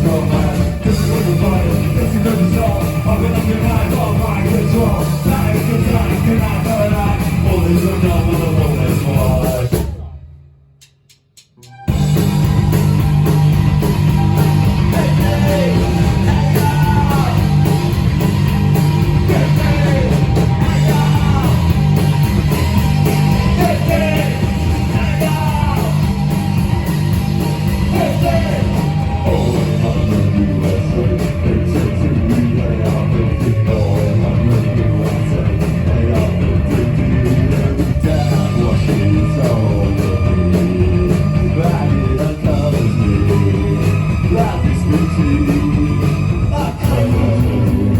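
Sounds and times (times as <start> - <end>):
rock band playing live: 0.0 - 10.1, 11.7 - 47.9
drums and cymbals hitting: 0.0 - 47.9.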